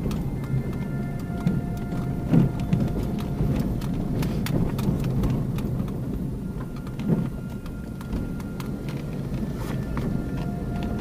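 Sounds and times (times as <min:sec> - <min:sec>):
gravel clicks and knocks: 0:00.0 - 0:11.0
tyre rumble on gravel road: 0:00.0 - 0:11.0.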